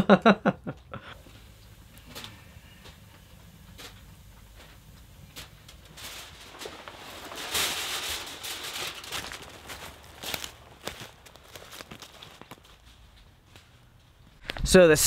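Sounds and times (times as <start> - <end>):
tarp rustling: 1.2 - 13.8
footsteps: 1.2 - 14.7.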